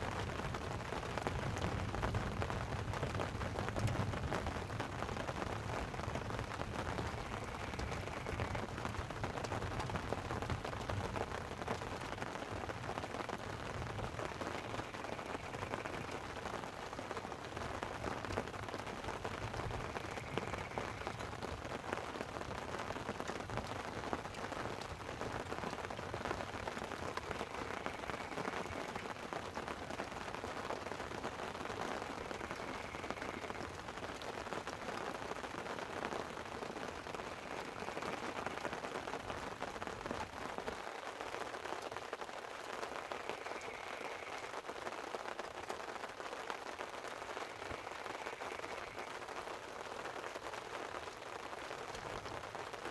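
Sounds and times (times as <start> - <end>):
rain pattering on a tent: 0.0 - 52.9.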